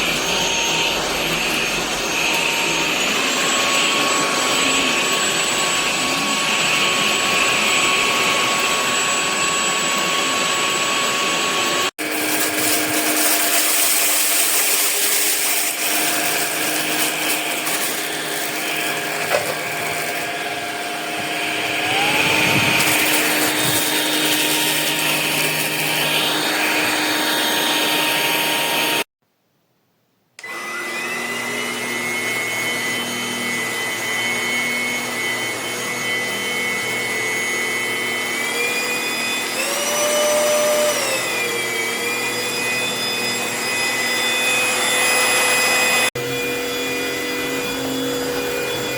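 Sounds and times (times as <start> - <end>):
stick vacuum motor whining: 0.0 - 29.1, 30.4 - 48.9.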